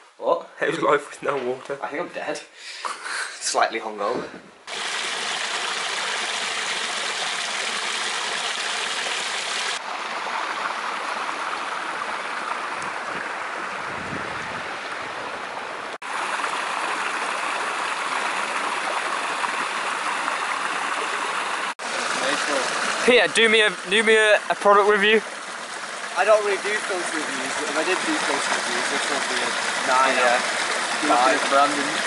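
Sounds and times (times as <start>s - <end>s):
stream rushing over cascade: 4.7s - 32.0s.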